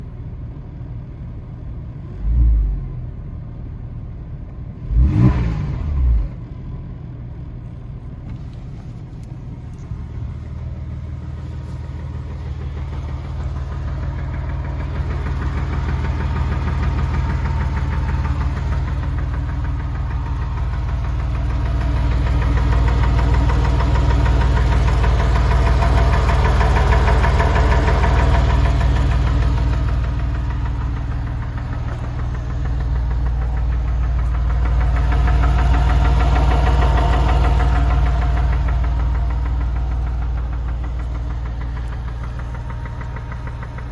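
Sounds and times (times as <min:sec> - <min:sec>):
car engine idling: 0:06.4 - 0:43.9.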